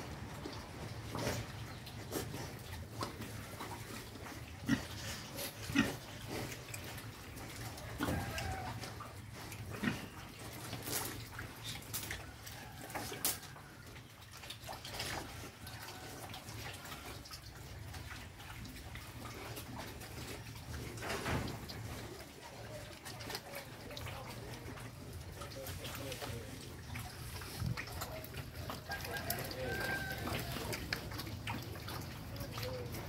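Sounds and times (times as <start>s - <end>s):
pigs grunting: 0.0s - 13.4s, 14.6s - 33.0s
pigs eating at a trough: 0.0s - 33.0s.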